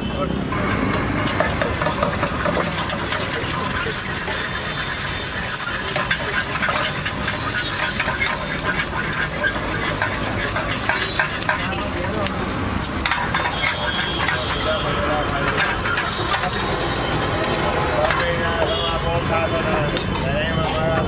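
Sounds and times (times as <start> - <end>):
metal spatula scraping pan: 0.7 - 18.5
eggs sizzling in a pan: 0.7 - 18.9.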